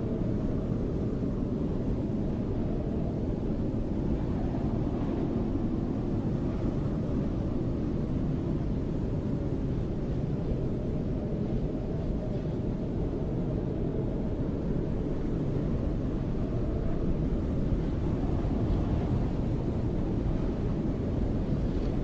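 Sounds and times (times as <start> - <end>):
snowstorm wind blowing: 0.0 - 22.0.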